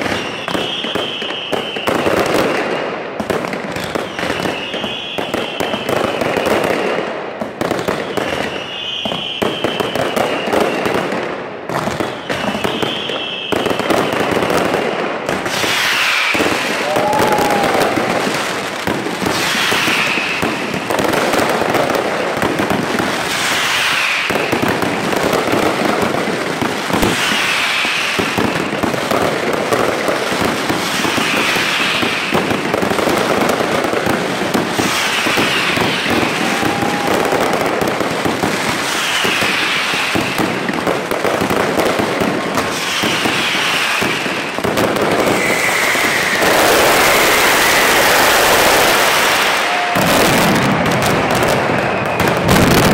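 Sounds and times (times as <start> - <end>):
falling firework whistles: 0.0 - 2.7, 3.8 - 6.8, 7.6 - 52.9
firecrackers crackling and banging: 0.0 - 52.9.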